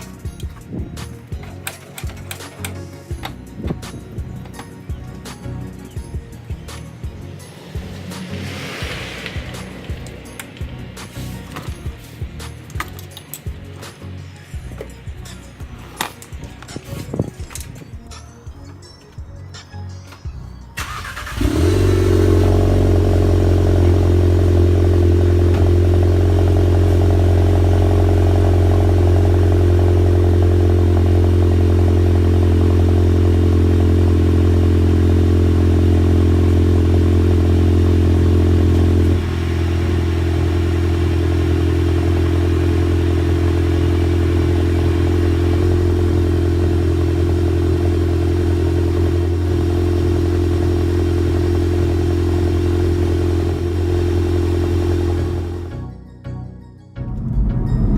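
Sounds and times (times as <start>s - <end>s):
car engine starting and idling: 0.0s - 18.2s, 20.2s - 55.8s.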